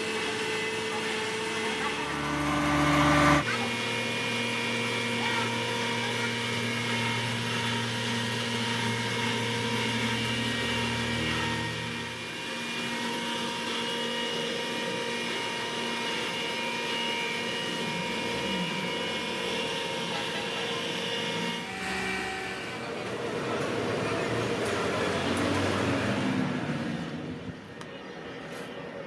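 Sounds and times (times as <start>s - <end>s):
flour mill machinery humming: 0.0s - 28.8s.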